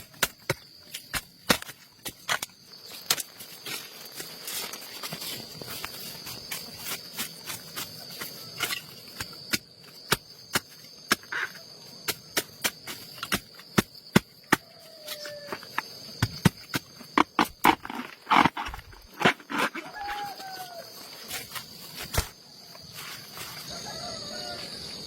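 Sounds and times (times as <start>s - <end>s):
insect drone: 0.0s - 25.0s.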